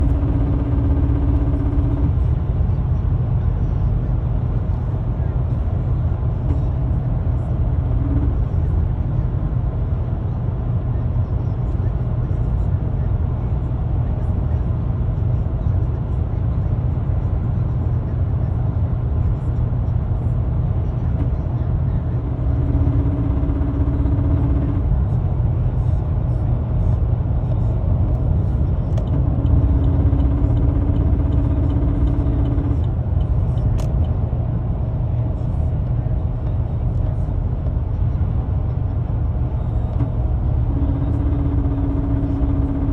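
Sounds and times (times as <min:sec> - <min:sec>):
steady engine hum: 0:00.0 - 0:42.9
truck engine rumbling: 0:00.0 - 0:42.9.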